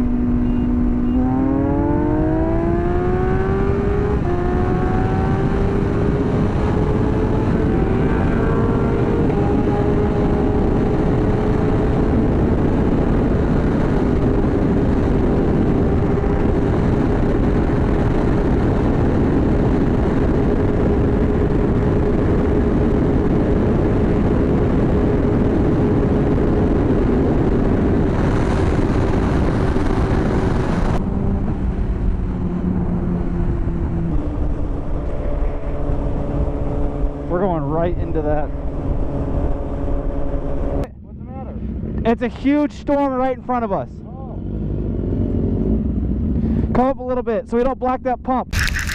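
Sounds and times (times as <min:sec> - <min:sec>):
wind rush over microphone: 0:00.0 - 0:40.9
motorcycle engine running: 0:00.0 - 0:42.1.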